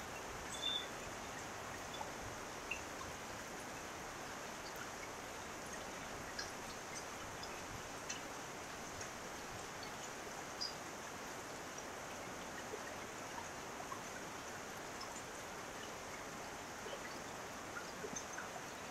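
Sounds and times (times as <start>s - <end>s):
water drips ticking: 0.0s - 18.9s.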